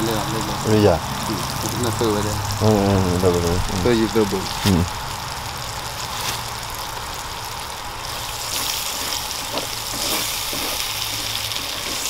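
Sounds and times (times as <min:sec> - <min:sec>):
food frying in a pan: 0:00.0 - 0:12.0.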